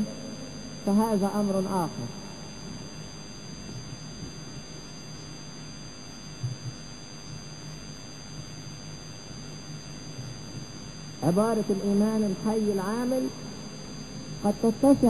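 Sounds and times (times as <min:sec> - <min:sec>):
mains hum and hiss: 0:00.0 - 0:15.0.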